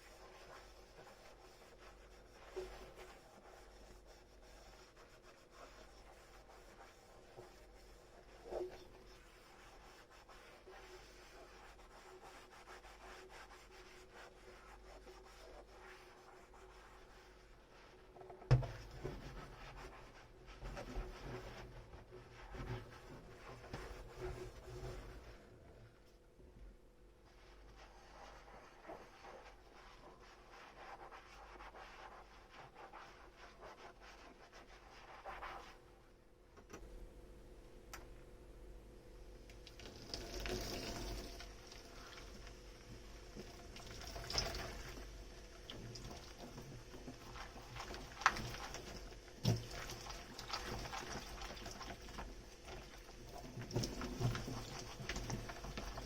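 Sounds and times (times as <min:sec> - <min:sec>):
dishes scrubbed with sponge: 0:00.0 - 0:25.6, 0:27.2 - 0:36.1, 0:39.6 - 0:56.0.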